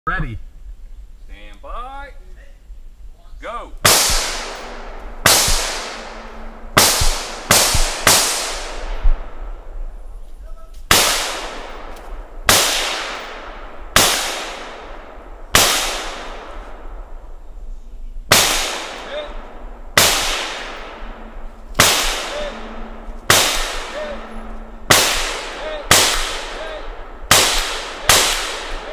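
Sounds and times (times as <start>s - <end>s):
rifle shots echoing: 3.8s - 10.1s, 10.9s - 17.6s, 18.3s - 28.9s.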